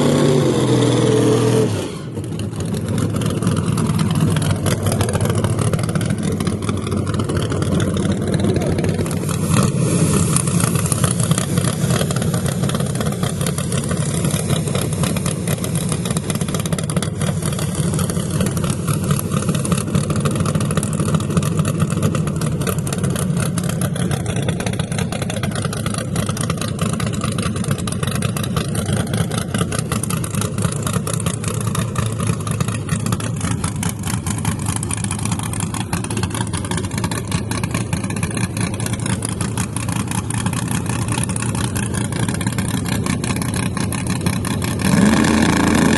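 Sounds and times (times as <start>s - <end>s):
car engine running steadily: 0.0s - 45.9s.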